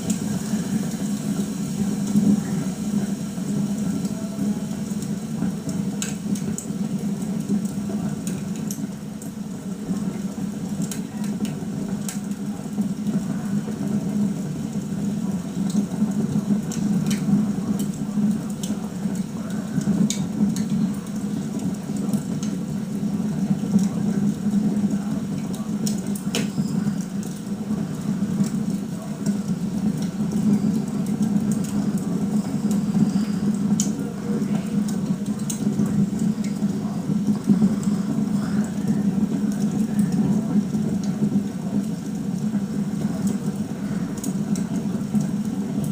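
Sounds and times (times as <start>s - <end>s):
log fire crackling and popping: 0.0s - 45.9s.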